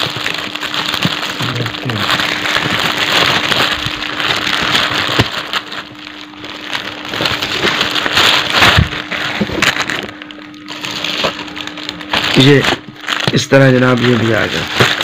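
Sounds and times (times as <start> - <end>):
faint steady hum: 0.0 - 15.0
plastic packet crinkling: 0.0 - 15.0.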